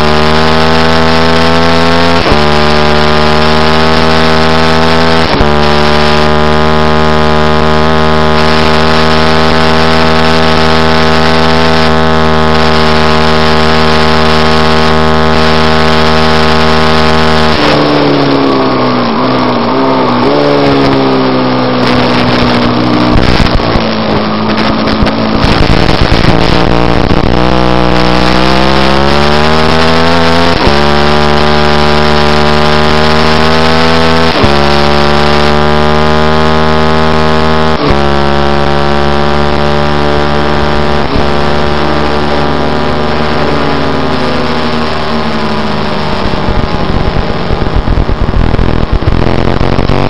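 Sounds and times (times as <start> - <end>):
racing motorcycle engine: 0.0 - 50.0.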